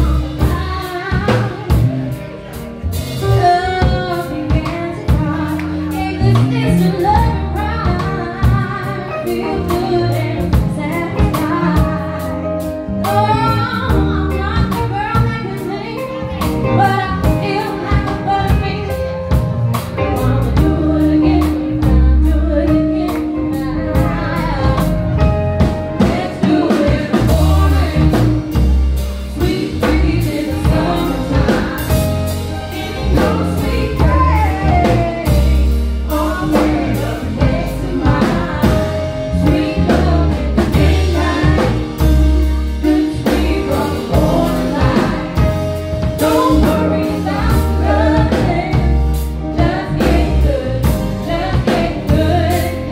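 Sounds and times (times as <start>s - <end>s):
drum kit: 0.0s - 52.9s
electric bass: 0.0s - 52.9s
electric guitar: 0.0s - 52.9s
woman singing: 0.0s - 52.9s.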